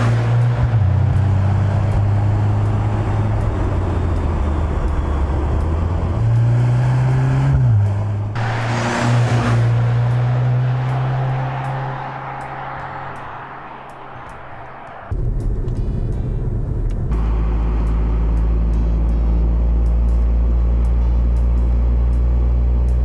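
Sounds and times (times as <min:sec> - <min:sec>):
car engine running: 0:00.0 - 0:23.0
road and wind noise: 0:00.0 - 0:23.0.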